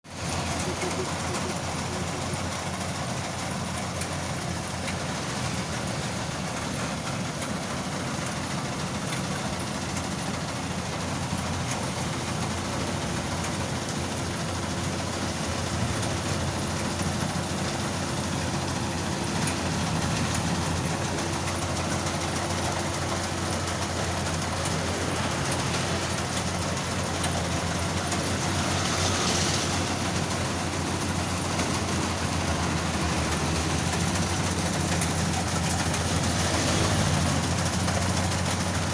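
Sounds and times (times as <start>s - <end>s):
rice thresher engine running: 0.1s - 38.9s.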